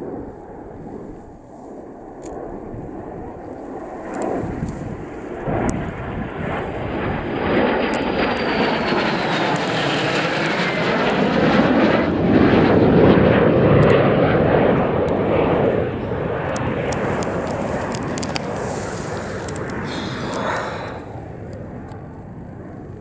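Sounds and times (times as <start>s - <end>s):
jets flying past: 0.0s - 22.9s
high whine gliding down: 3.4s - 22.0s.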